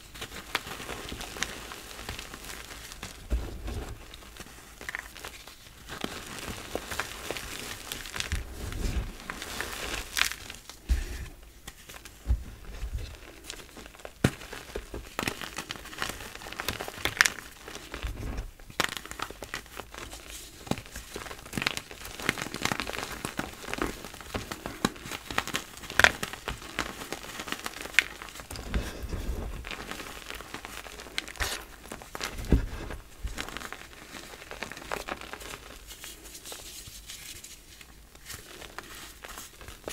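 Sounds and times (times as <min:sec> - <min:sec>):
hands crushing chalk blocks: 0:00.0 - 0:39.9.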